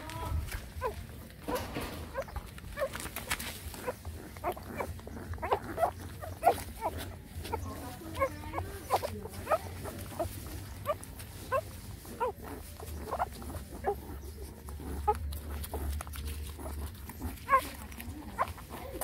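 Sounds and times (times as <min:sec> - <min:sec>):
puppies squeaking and whimpering: 0:00.0 - 0:19.0.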